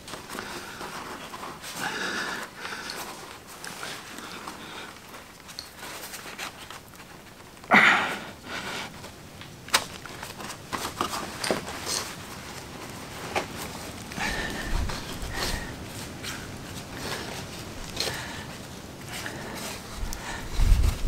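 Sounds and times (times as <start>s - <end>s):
plastic foil rustling: 0.0s - 7.7s, 8.4s - 21.0s.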